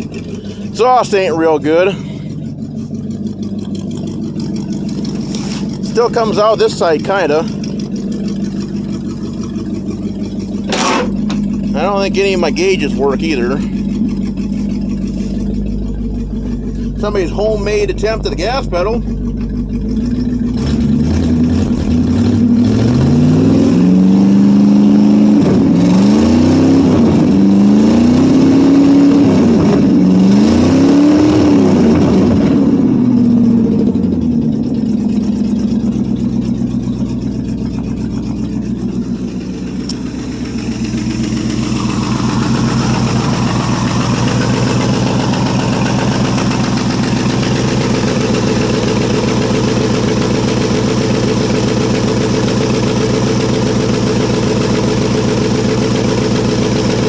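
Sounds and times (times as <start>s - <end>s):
engine revving and idling: 0.0s - 57.0s.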